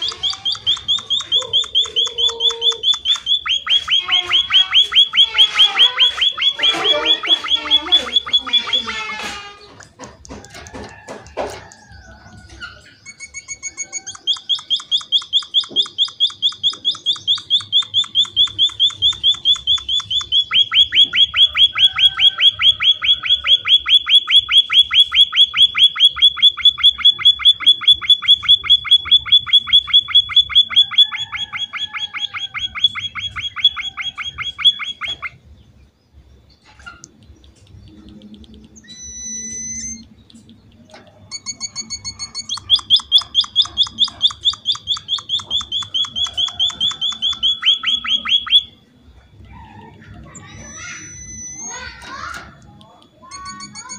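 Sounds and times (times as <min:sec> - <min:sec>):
bird rapid chirping: 0:00.0 - 0:11.0, 0:11.6 - 0:53.9.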